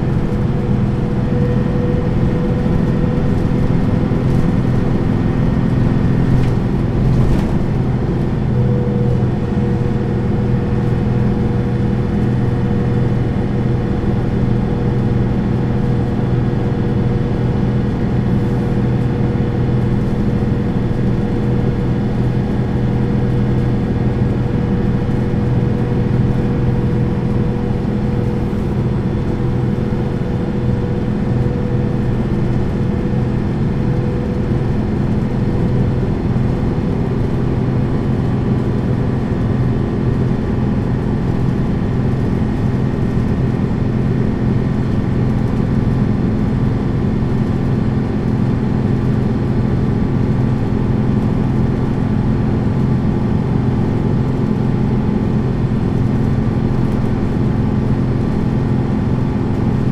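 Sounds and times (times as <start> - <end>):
bus diesel engine humming: 0.0 - 59.9
road noise: 0.0 - 59.9.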